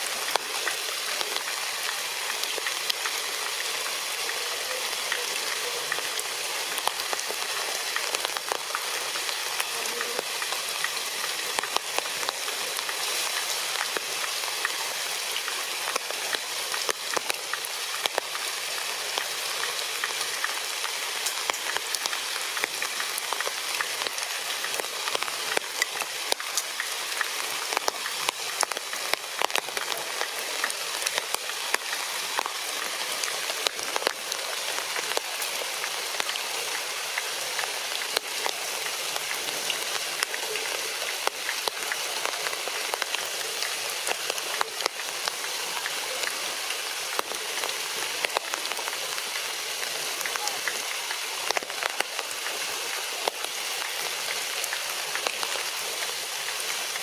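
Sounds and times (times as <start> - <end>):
rain on foliage: 0.0 - 57.0.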